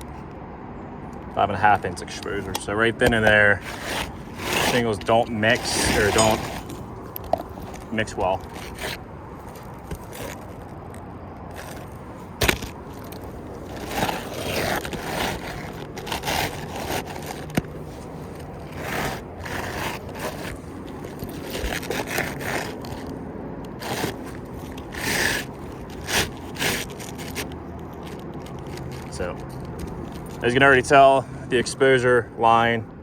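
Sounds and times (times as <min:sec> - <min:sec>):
shingles scraping and rustling: 0:01.4 - 0:30.8.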